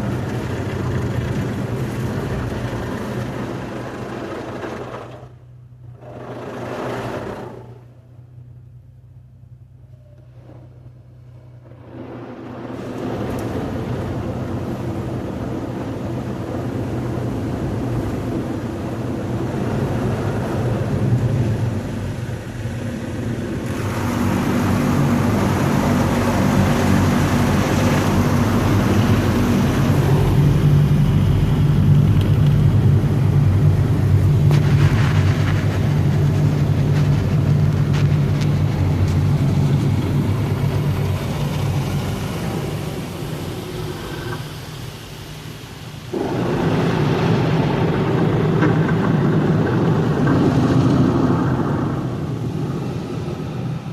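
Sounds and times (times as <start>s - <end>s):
car wash equipment rushing: 0.0s - 8.9s, 9.6s - 53.9s
low hum: 7.2s - 53.9s.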